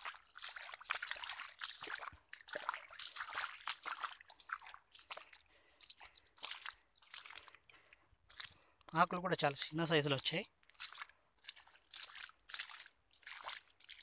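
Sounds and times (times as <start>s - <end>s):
mud squelching underfoot: 0.0s - 14.0s.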